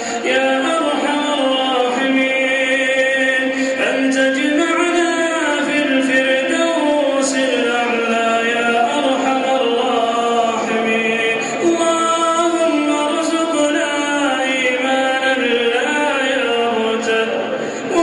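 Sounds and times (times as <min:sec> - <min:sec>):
man chanting melodic recitation: 0:00.2 - 0:18.0.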